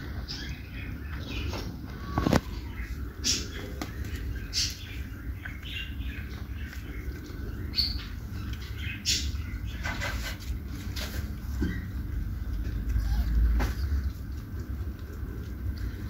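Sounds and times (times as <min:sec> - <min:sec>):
cats chewing wetly: 0:00.0 - 0:16.0.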